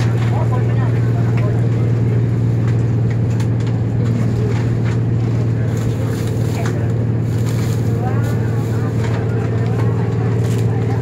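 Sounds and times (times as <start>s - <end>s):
train drone inside coach: 0.0s - 11.0s.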